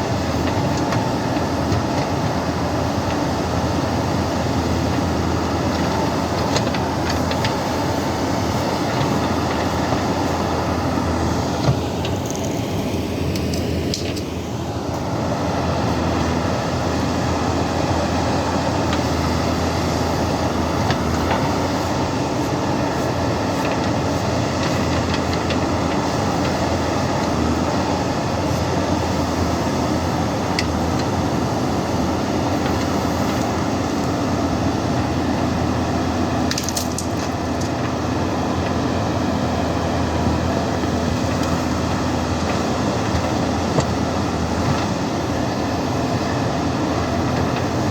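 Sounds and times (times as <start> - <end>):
diesel engine running: 0.0 - 47.9
soil scraping and crunching: 0.1 - 47.9.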